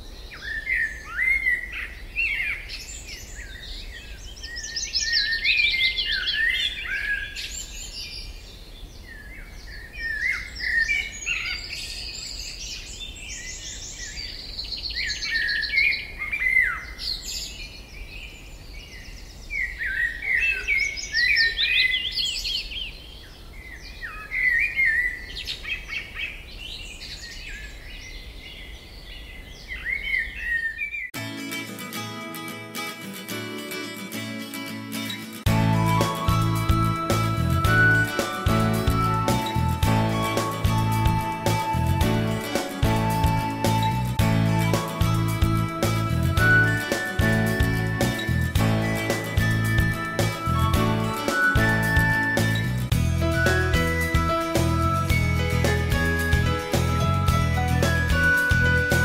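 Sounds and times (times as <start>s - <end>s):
songbirds chirping and trilling: 0.0s - 31.2s, 34.8s - 56.6s.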